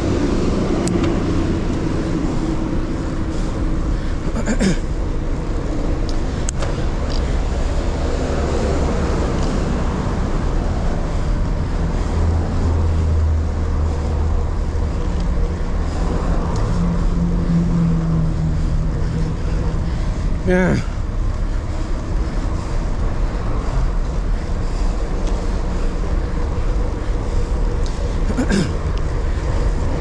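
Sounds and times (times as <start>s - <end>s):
low engine drone: 0.0s - 30.0s
traffic noise: 0.0s - 30.0s.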